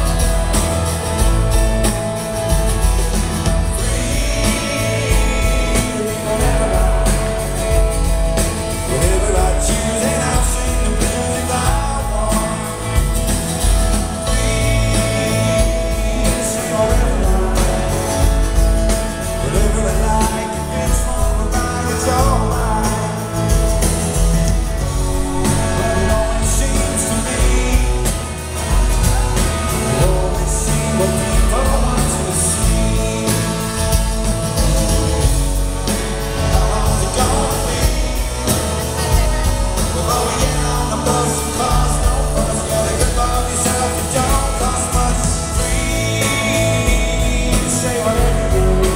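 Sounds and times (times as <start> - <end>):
bass guitar: 0.0 - 48.9
electric guitar: 0.0 - 48.9
strummed acoustic guitar: 0.0 - 48.9
male lead vocal singing: 3.4 - 23.9, 24.8 - 48.9.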